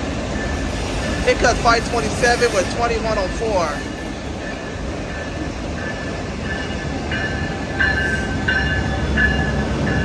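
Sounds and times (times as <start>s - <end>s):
locomotive bell ringing: 0.0s - 10.0s
train rumbling past: 0.0s - 10.0s.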